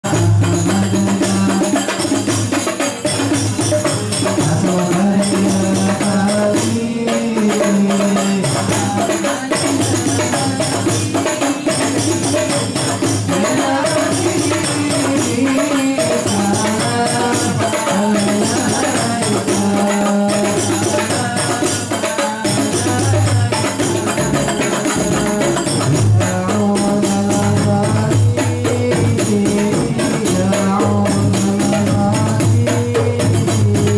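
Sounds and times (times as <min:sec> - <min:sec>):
frame drums beating: 0:00.0 - 0:33.9
man singing: 0:00.0 - 0:33.9.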